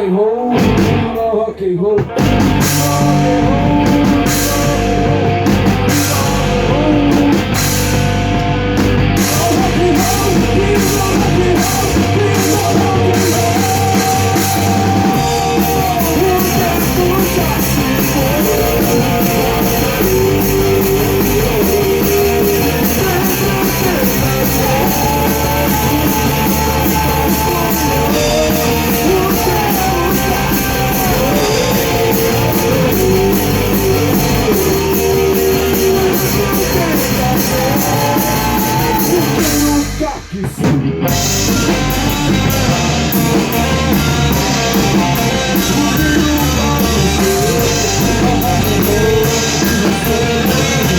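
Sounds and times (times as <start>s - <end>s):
rock band playing live: 0.0s - 50.9s
drum kit with cymbals: 0.5s - 1.4s, 2.0s - 50.9s.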